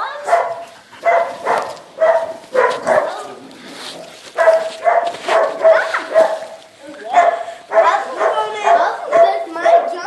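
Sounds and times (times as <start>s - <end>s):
puppies barking and yipping: 0.0s - 10.0s.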